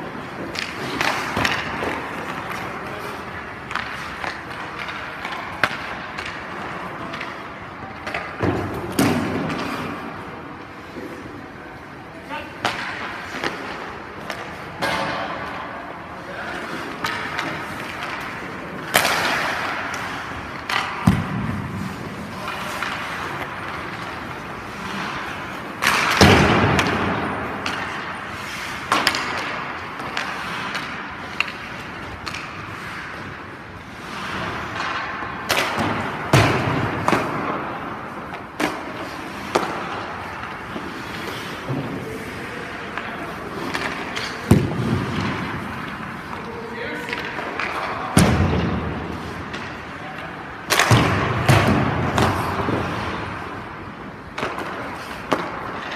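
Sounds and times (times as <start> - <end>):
skate blades scraping ice: 0.0 - 48.1, 48.8 - 55.9.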